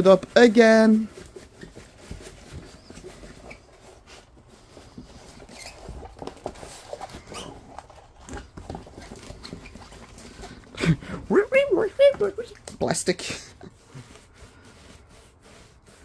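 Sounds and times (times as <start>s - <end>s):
plastic canvas rustling and crackling: 0.0s - 16.0s.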